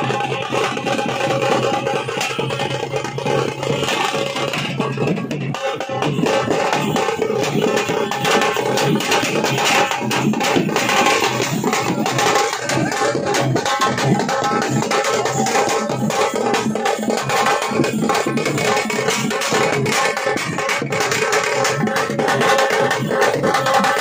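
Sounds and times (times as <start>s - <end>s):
fast loud drumming: 0.0s - 24.0s.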